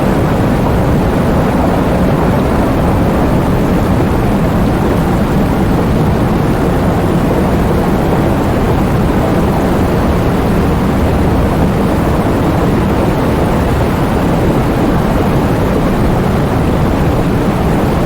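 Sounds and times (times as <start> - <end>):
heavy rain roar: 0.0 - 18.0.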